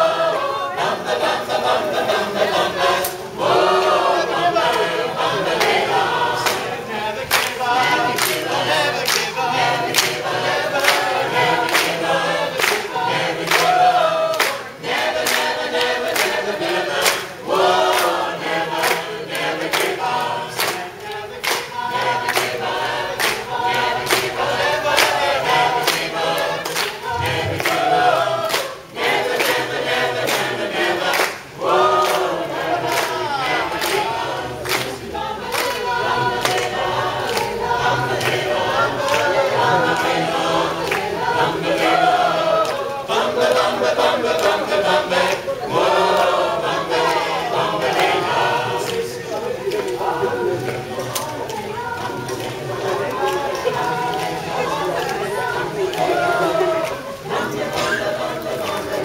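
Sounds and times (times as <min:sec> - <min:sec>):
choir singing a cappella: 0:00.0 - 0:59.0
hand claps keeping beat: 0:04.6 - 0:59.0.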